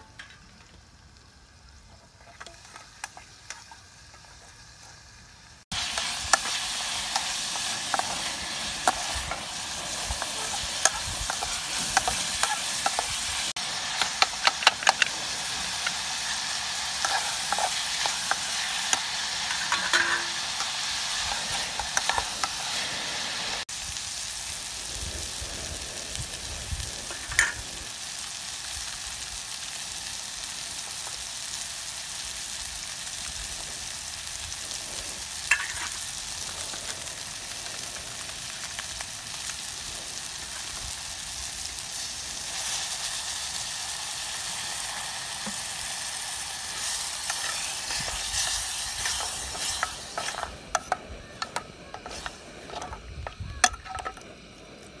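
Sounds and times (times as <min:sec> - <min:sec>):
vegetables sizzling in a pot: 0:00.0 - 0:55.0.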